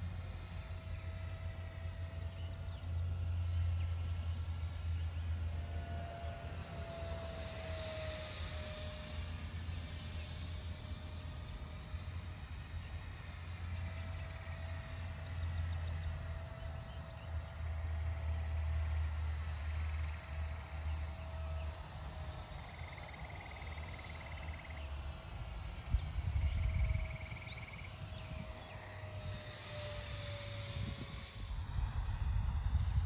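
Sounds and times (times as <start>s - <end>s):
electric ducted fan whine: 0.0s - 33.0s.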